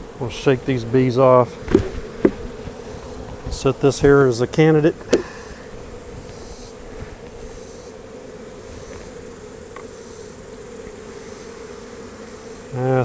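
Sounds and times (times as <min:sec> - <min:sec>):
honey bees buzzing: 0:00.0 - 0:13.0.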